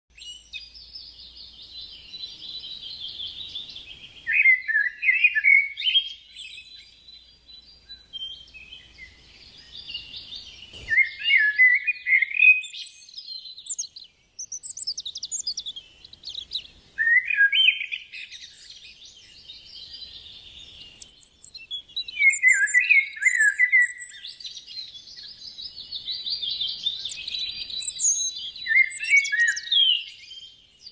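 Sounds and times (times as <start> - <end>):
birds chirping and twittering: 0.1 - 30.9
falling bird chirps: 0.1 - 30.9.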